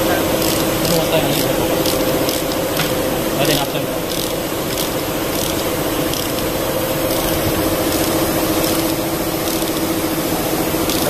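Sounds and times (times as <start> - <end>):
machine running: 0.0 - 11.0
ratchet ticking: 0.4 - 10.0, 10.8 - 11.0.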